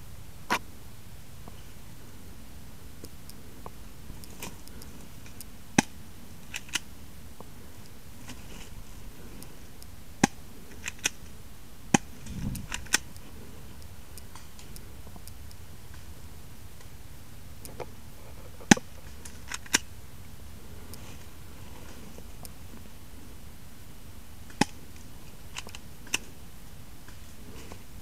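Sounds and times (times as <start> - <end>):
low rustle: 0.0 - 28.0.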